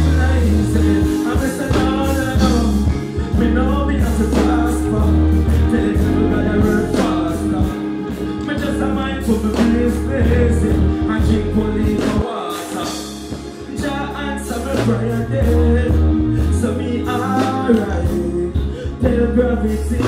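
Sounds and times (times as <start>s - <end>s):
dancehall backing track: 0.0s - 20.0s.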